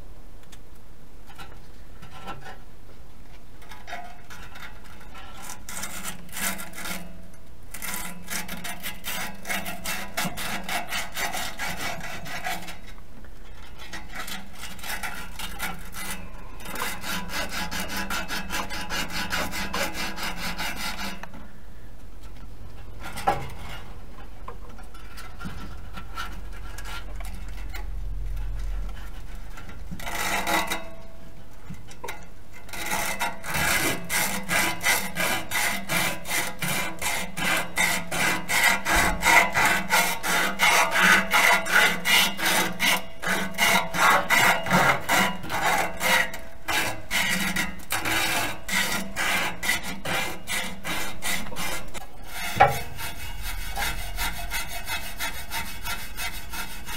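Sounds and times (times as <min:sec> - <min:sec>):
abrasive scrubbing metal pipe: 0:07.8 - 0:13.0, 0:13.6 - 0:21.4, 0:22.8 - 0:31.4, 0:32.0 - 0:56.9.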